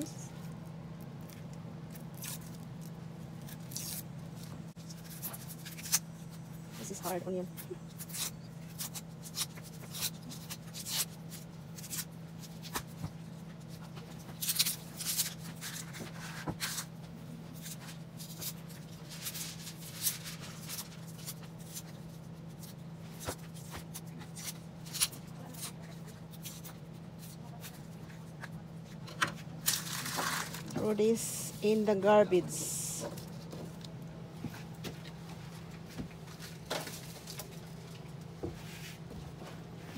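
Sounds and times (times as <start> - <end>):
papery onion skin crackling: 0.0 - 38.3
steady low hum: 0.0 - 39.9.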